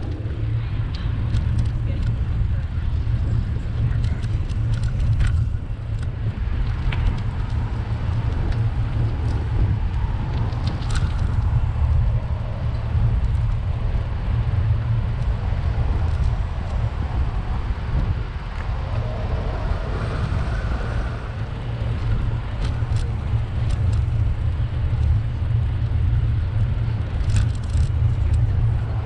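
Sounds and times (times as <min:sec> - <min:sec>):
bicycle clicks and rattles: 0:00.0 - 0:20.3, 0:21.4 - 0:29.0
bicycle road rumble: 0:00.0 - 0:29.0
wind on microphone: 0:00.0 - 0:29.0.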